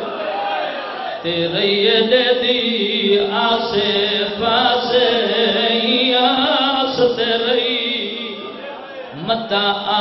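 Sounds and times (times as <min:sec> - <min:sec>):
man chanting through loudspeakers: 0:01.2 - 0:10.0.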